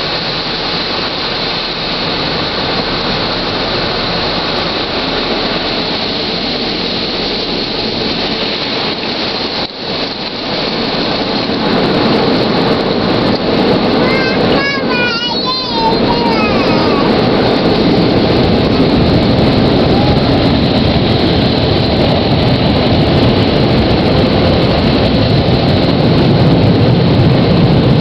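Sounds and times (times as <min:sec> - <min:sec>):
car wash water spray and machinery: 0:00.0 - 0:28.0.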